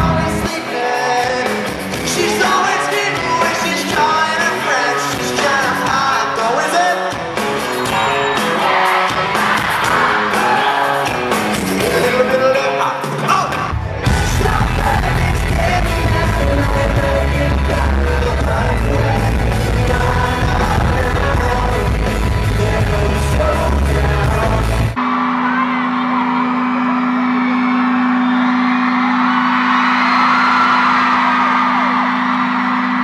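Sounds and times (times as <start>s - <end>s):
fans yelling: 0.0s - 21.8s, 22.8s - 33.0s
live pop-rock band playing: 0.0s - 33.0s.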